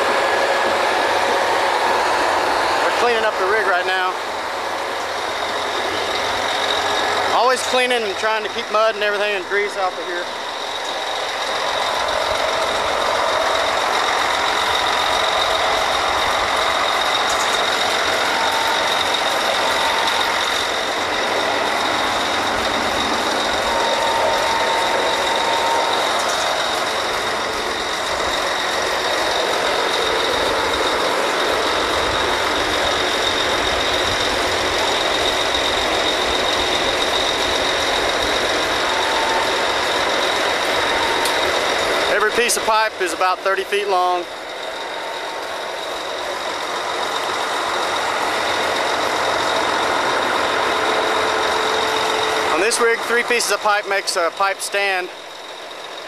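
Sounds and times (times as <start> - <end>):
drilling rig machinery running: 0.0 - 56.0
high mechanical whine: 0.0 - 56.0.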